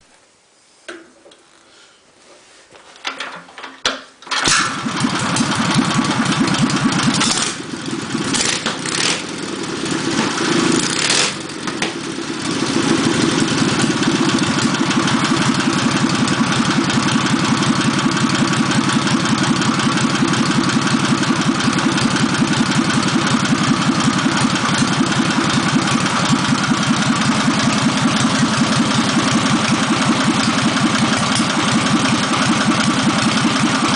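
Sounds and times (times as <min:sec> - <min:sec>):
motorcycle engine starting and idling: 0:04.2 - 0:33.9.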